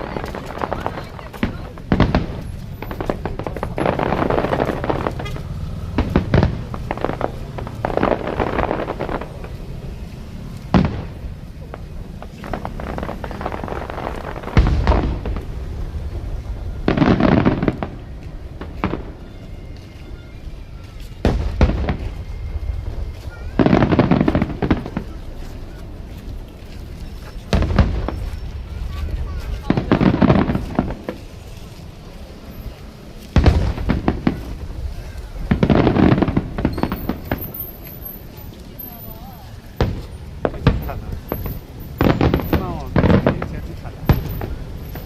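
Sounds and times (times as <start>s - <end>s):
firework pops and crackles: 0.0s - 19.4s, 20.9s - 45.0s
sharp firework crack: 0.0s - 19.4s, 21.2s - 25.8s, 27.4s - 31.4s, 33.3s - 45.0s.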